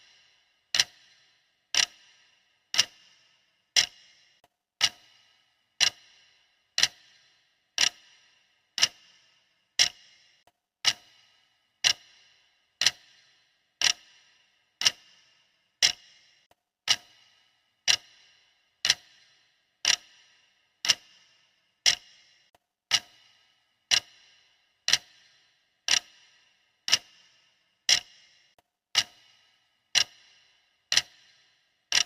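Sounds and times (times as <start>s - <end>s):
clock ticking: 0.0s - 32.0s.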